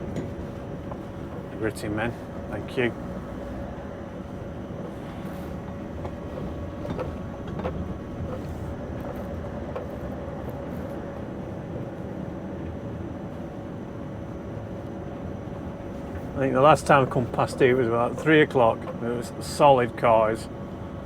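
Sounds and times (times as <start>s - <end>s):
truck engine and road drone: 0.0s - 21.0s.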